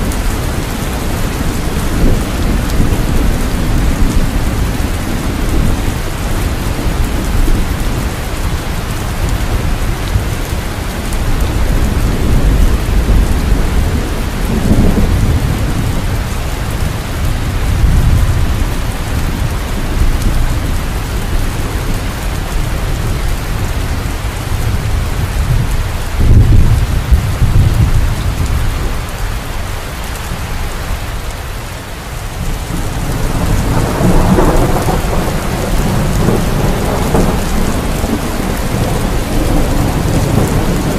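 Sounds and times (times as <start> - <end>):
low rolling thunder: 0.0 - 29.3, 32.3 - 40.9
heavy rain hissing: 0.0 - 40.9.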